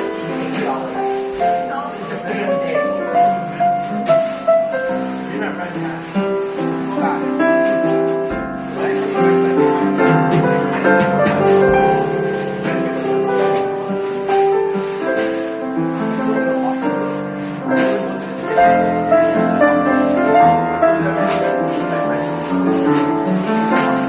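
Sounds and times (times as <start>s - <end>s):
light percussion: 0.0s - 24.0s
piano chords and melody: 0.0s - 24.0s.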